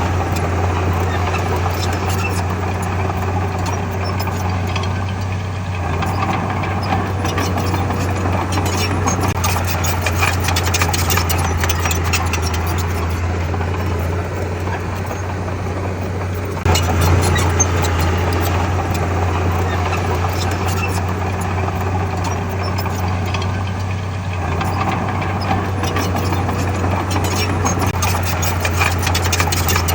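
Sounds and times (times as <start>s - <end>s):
diesel engine droning: 0.0s - 29.9s
quick clanks and rattles: 0.0s - 29.9s.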